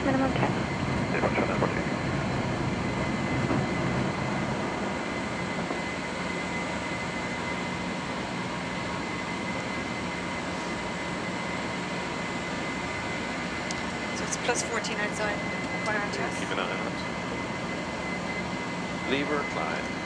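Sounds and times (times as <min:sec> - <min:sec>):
faint steady tones: 0:00.0 - 0:20.0
jet engine and airflow noise: 0:00.0 - 0:20.0.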